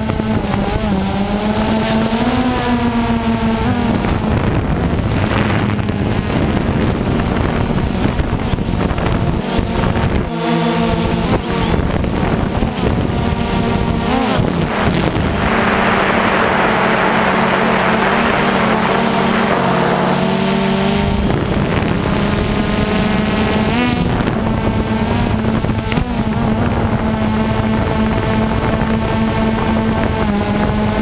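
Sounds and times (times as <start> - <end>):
drone motors buzzing: 0.0 - 31.0
wind on microphone: 0.0 - 31.0.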